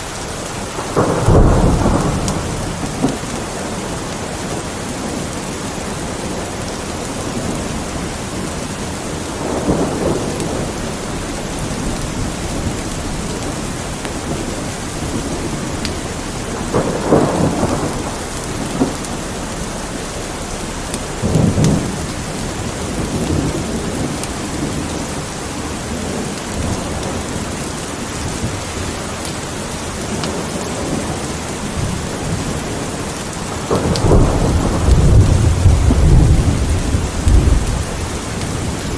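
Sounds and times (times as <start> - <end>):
steady rain: 0.0 - 38.9
thunder rumbling: 0.0 - 38.9.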